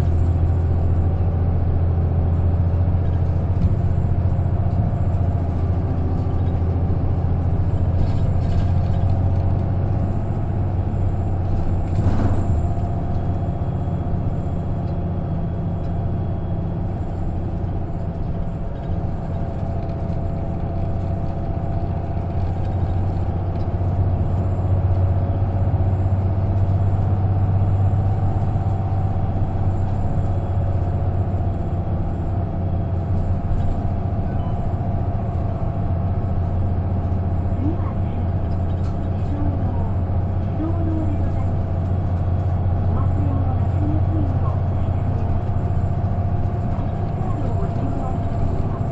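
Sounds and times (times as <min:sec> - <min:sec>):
bus engine drone: 0:00.0 - 0:48.9
road noise: 0:00.0 - 0:48.9.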